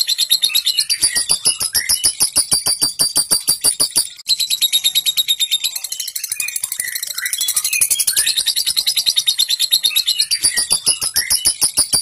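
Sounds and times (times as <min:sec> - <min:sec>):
bird chattering trill: 0:00.0 - 0:12.0
high bird chirps: 0:00.0 - 0:12.0.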